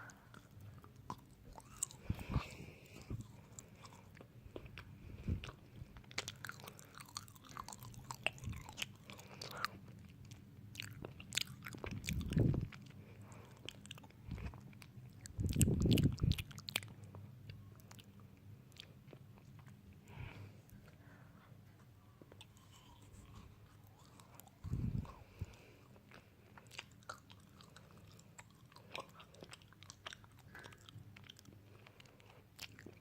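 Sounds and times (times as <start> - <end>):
crunchy biting and chewing: 0.3 - 16.9, 22.4 - 33.0.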